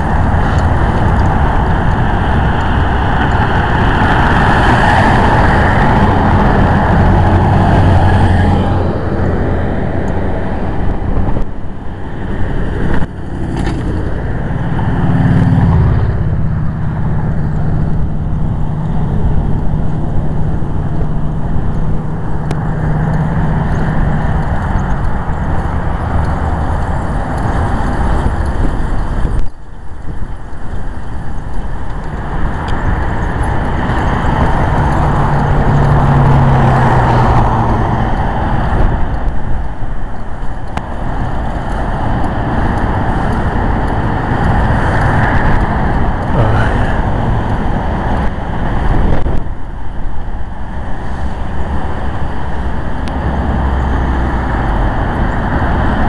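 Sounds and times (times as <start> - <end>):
road noise: 0.0 - 56.0
vehicle engine hum: 0.0 - 56.0.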